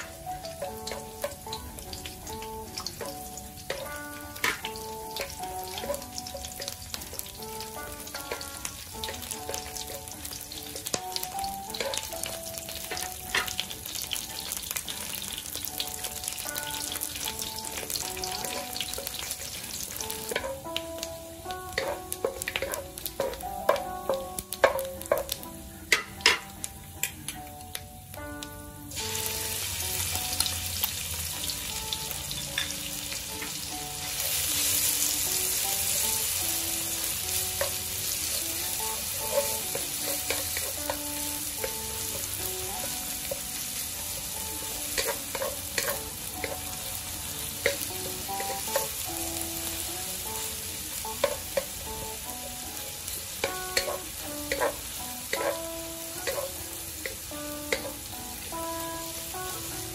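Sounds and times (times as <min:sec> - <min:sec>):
paste sizzling in hot oil: 0:00.0 - 0:27.2, 0:28.9 - 0:59.9.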